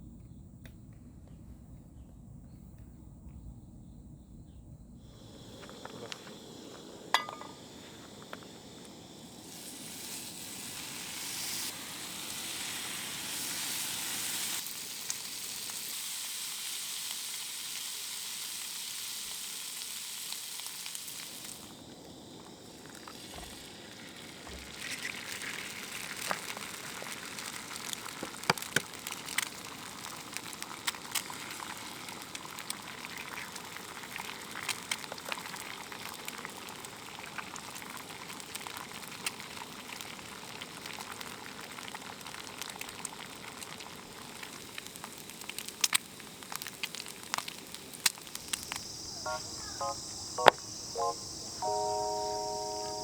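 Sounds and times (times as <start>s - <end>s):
campfire crackling and hissing: 5.0s - 53.0s.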